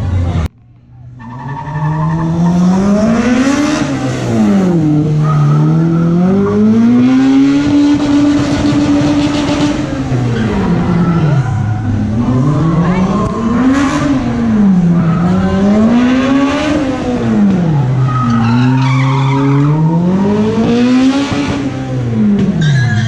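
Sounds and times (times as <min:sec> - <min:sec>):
car engine revving hard: 0:01.8 - 0:22.6.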